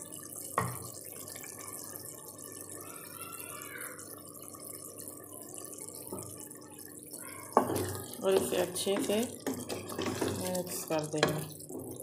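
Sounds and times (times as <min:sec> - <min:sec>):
pot simmering with bubbling hiss: 0:00.0 - 0:12.0.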